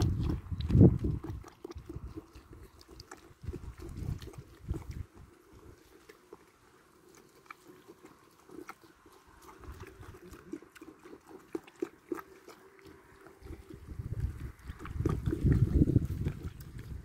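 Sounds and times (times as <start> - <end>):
goat kids chewing: 0.0 - 17.0.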